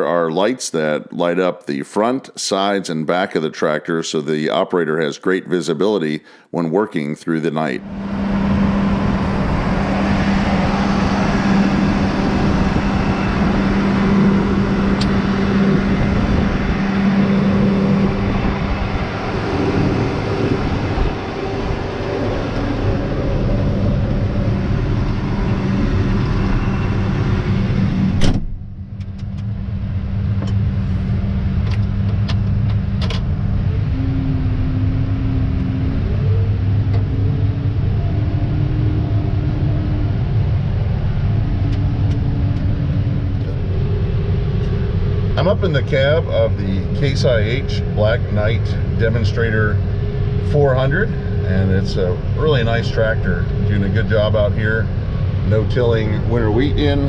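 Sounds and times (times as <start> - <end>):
engine drone inside cab: 7.6 - 57.0
tractor diesel engine running: 7.6 - 57.0.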